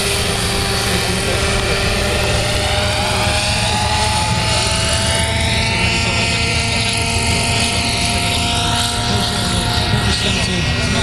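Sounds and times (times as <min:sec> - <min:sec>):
model helicopter motor whine: 0:00.0 - 0:11.0
rotor noise: 0:00.0 - 0:11.0.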